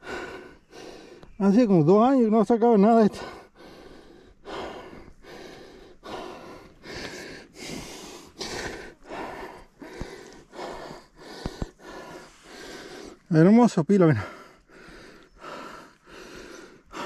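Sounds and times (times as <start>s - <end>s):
man panting hard: 0.0s - 1.5s, 3.0s - 17.0s.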